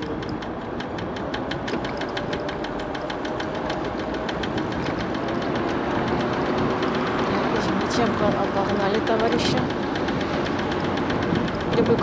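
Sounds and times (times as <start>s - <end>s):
scooter wheel knocking: 0.0s - 12.0s
wind rumble on microphone: 0.0s - 12.0s.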